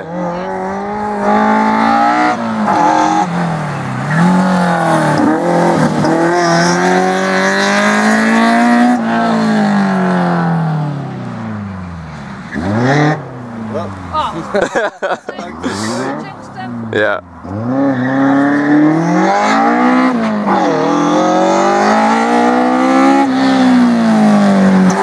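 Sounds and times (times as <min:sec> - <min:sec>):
car engine revving hard: 0:00.0 - 0:11.7, 0:12.5 - 0:25.0.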